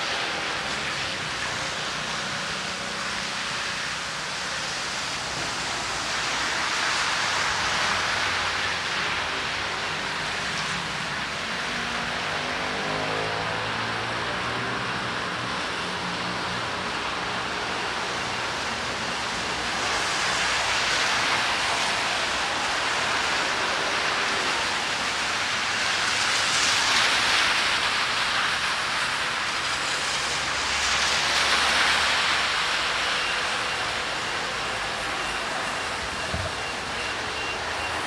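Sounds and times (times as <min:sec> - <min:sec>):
rain hiss: 0:00.0 - 0:13.1, 0:15.0 - 0:38.0
tyres hissing on wet road: 0:00.0 - 0:38.0.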